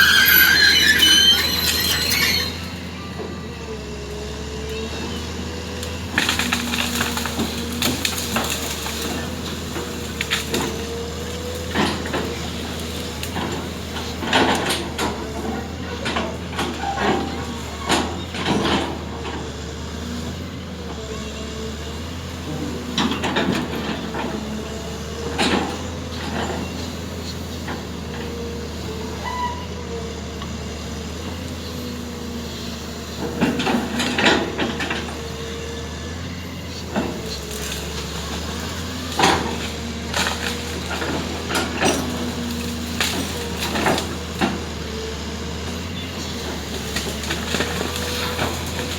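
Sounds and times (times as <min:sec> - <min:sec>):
diesel machinery running: 0:00.0 - 0:48.9.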